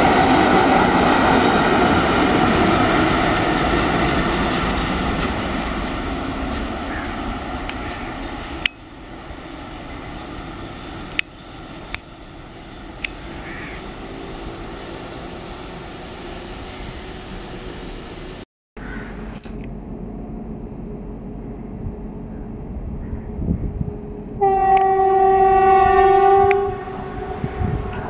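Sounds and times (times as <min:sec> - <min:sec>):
locomotives rumbling past: 0:00.0 - 0:28.0.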